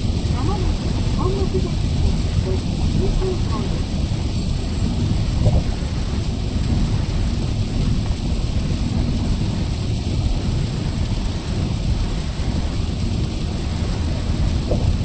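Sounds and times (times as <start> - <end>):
car driving in rain: 0.0 - 15.0.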